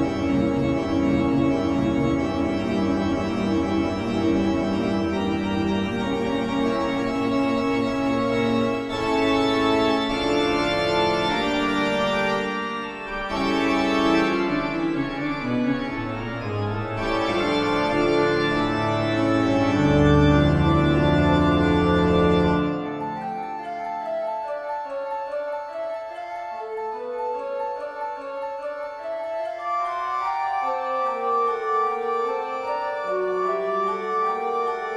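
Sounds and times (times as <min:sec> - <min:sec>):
eerie organ chords: 0:00.0 - 0:34.9.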